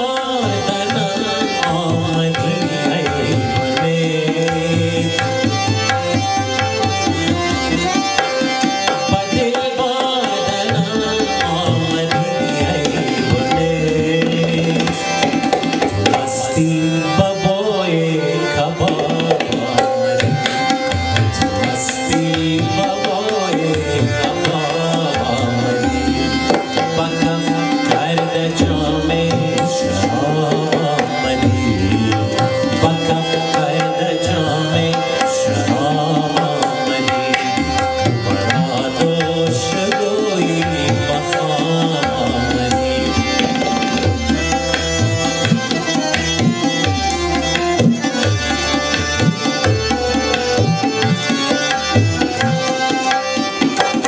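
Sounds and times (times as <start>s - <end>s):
harmonium chords: 0.0s - 54.0s
tabla rhythm: 0.0s - 54.0s.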